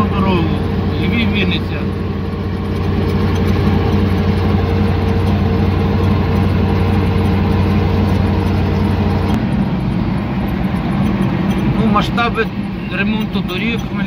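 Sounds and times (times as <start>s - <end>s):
truck engine humming: 0.0s - 14.0s
tyre and road noise: 0.0s - 14.0s.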